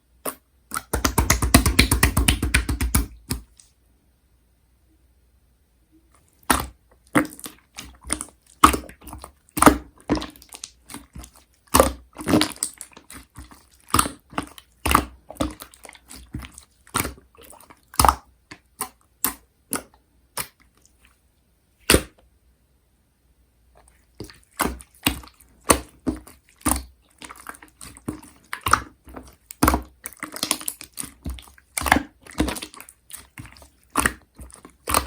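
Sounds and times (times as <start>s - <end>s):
slime sticky clicks and wet pops: 0.2s - 3.6s, 6.4s - 20.9s, 24.2s - 35.0s.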